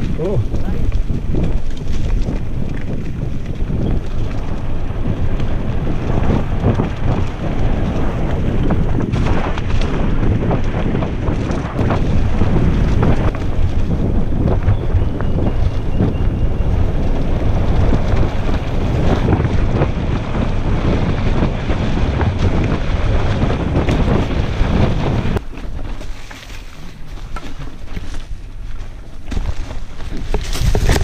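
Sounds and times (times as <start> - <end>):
bike tyres rumbling on dirt: 0.0 - 31.0
wind buffeting microphone: 0.0 - 31.0.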